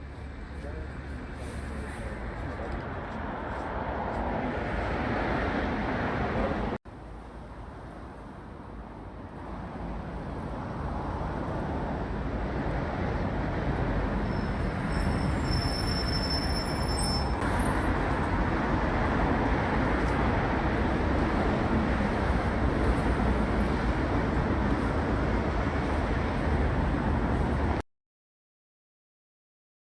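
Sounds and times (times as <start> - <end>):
traffic and street noise: 0.0 - 27.8.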